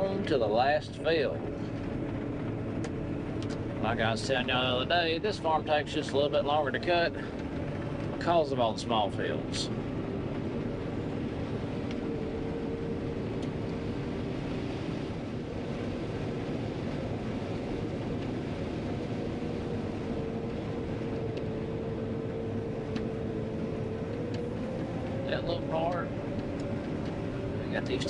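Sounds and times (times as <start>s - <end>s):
combine harvester drone: 0.0s - 28.0s.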